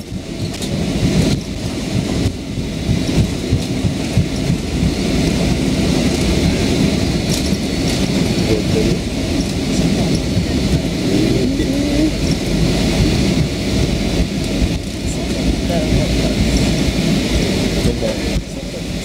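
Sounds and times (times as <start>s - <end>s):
jet engines rumbling: 0.0s - 19.0s
landing gear rolling on runway: 0.0s - 19.0s.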